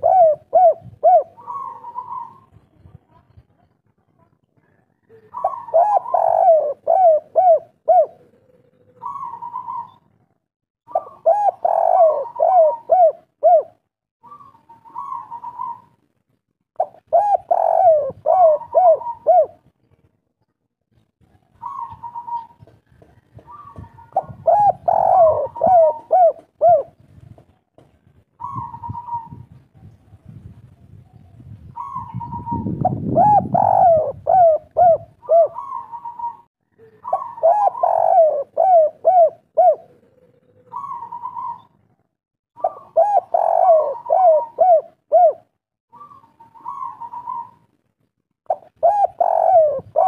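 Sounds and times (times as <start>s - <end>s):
dove cooing: 0.0s - 2.7s, 5.0s - 16.0s, 16.8s - 19.7s, 21.5s - 27.0s, 28.4s - 29.6s, 31.7s - 42.0s, 42.6s - 47.7s, 48.5s - 50.0s.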